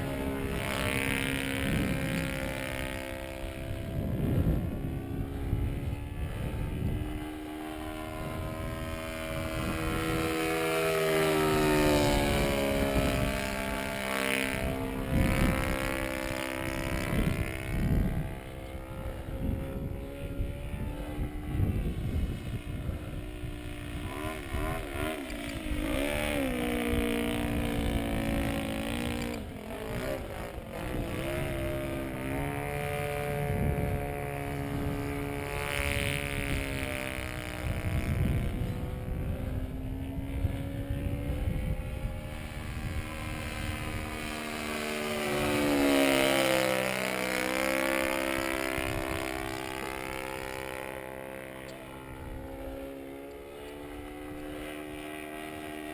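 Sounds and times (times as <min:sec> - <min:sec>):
model aircraft engine flying overhead: 0:00.0 - 0:55.9
wind rumble on microphone: 0:00.0 - 0:55.9.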